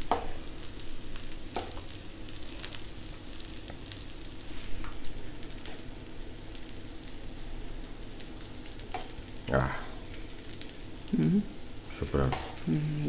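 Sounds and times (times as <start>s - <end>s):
batter sizzling on hot pan: 0.0s - 13.0s.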